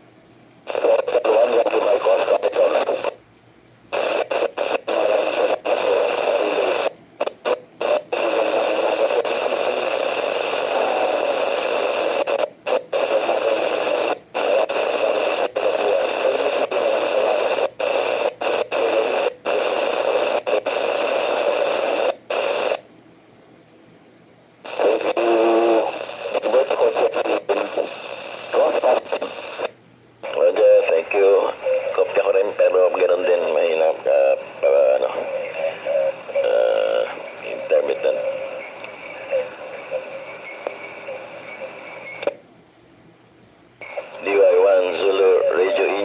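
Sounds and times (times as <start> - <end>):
radio static hiss: 0.0 - 22.9, 24.5 - 46.0.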